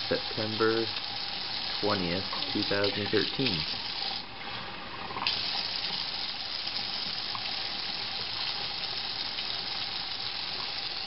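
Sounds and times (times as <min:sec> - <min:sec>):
water running into a bath: 0:00.0 - 0:11.0.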